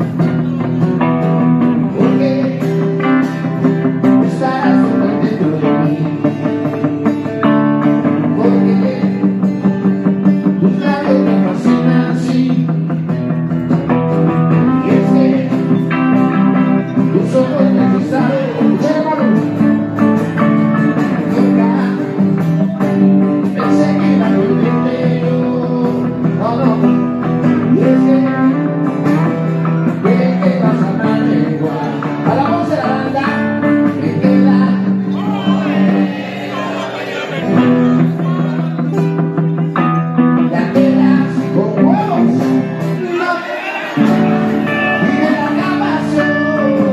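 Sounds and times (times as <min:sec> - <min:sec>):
person singing: 0:00.0 - 0:07.0, 0:07.9 - 0:13.1, 0:14.0 - 0:19.8, 0:20.4 - 0:46.9
acoustic guitar chords: 0:00.0 - 0:46.9.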